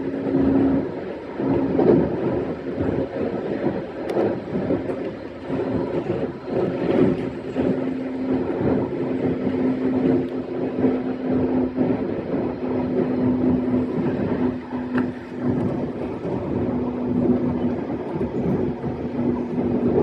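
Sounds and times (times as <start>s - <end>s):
steady train hum: 0.0s - 20.0s
train wheels rumbling on rail: 0.0s - 20.0s.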